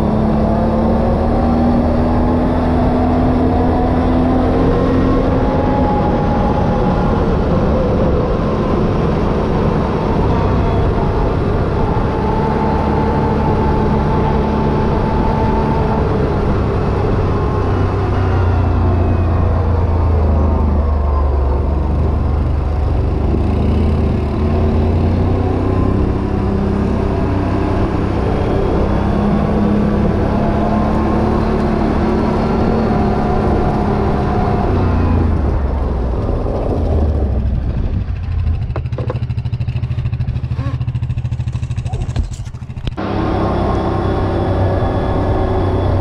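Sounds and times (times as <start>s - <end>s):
atv engine revving: 0.0s - 46.0s.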